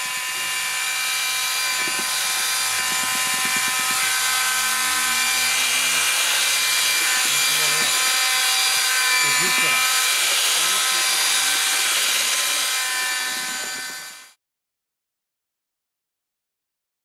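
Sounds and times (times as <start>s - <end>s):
drill motor whine: 0.0s - 14.4s.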